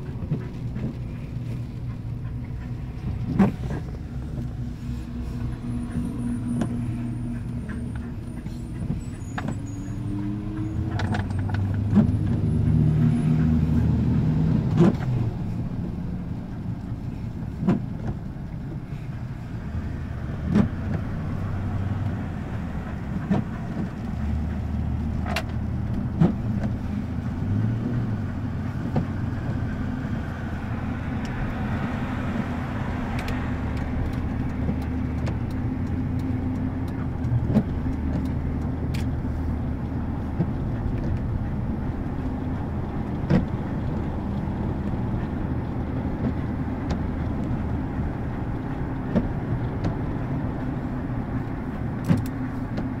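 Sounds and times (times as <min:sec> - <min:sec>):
truck engine and road noise: 0:00.0 - 0:53.0.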